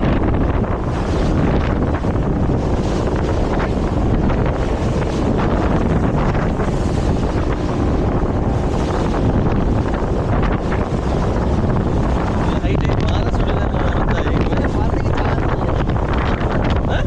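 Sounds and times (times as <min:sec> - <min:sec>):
boat engine noise: 0:00.0 - 0:17.0
water: 0:00.0 - 0:17.0
wind buffeting microphone: 0:00.0 - 0:17.0.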